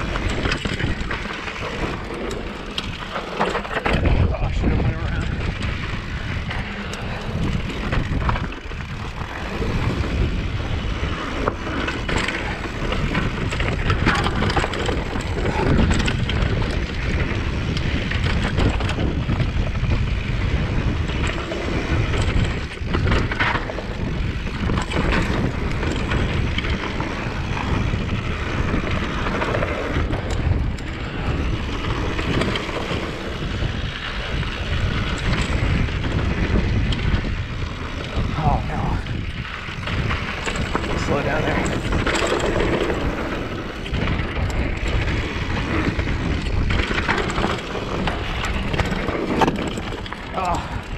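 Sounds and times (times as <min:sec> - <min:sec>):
bike rattling over bumps: 0:00.0 - 0:50.9
tyres on loose dirt: 0:00.0 - 0:50.9
wind rushing over microphone: 0:00.0 - 0:50.9.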